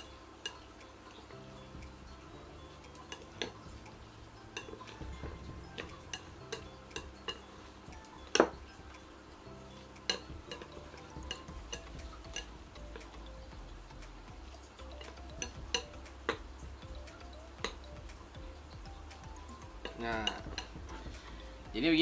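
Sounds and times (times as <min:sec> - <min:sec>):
chopsticks clicking against bowl: 0:00.0 - 0:02.0, 0:02.8 - 0:09.0, 0:09.8 - 0:14.2, 0:14.8 - 0:18.3, 0:19.1 - 0:20.8.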